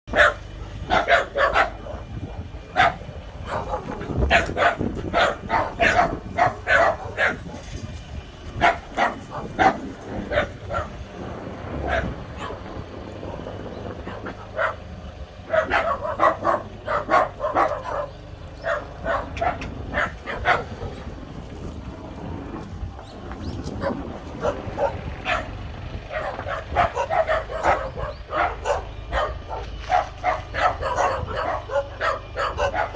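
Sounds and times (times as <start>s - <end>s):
dog barking: 0.1s - 7.8s, 8.6s - 11.1s, 11.8s - 21.1s, 23.8s - 32.9s.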